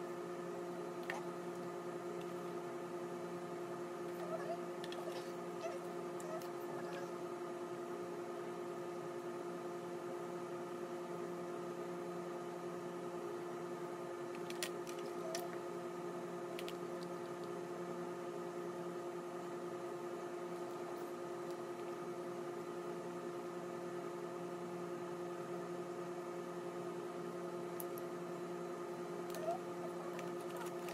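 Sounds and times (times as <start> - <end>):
steady electrical hum: 0.0 - 30.9.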